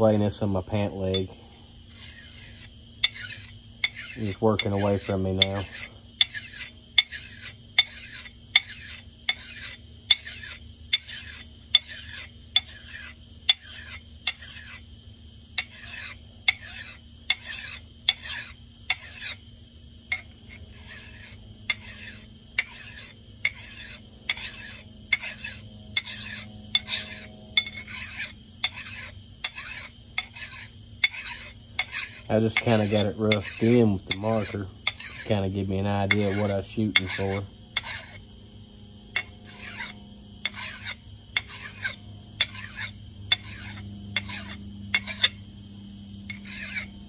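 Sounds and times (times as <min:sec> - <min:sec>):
faint steady hum: 0:00.0 - 0:47.0
rasping on steel axe head: 0:01.9 - 0:14.9, 0:15.6 - 0:19.4, 0:20.1 - 0:38.2, 0:39.1 - 0:45.4, 0:46.3 - 0:47.0.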